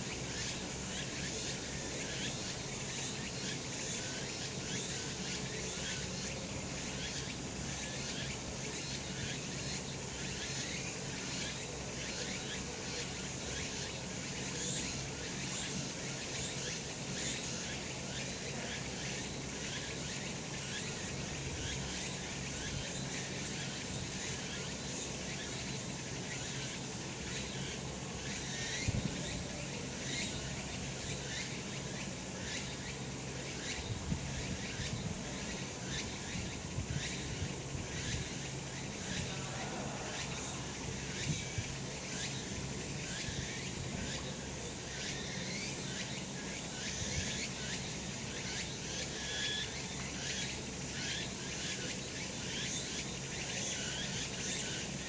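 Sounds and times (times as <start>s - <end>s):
cicadas singing: 0.0s - 55.0s.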